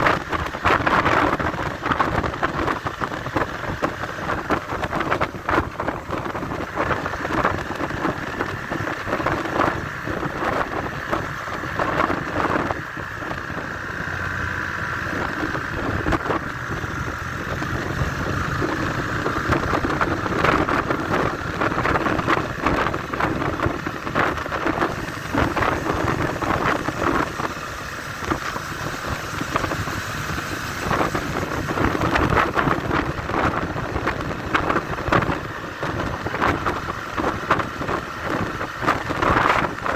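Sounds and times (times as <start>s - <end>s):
motorcycle engine roaring: 0.0s - 39.9s
wind buffeting microphone: 0.0s - 39.9s.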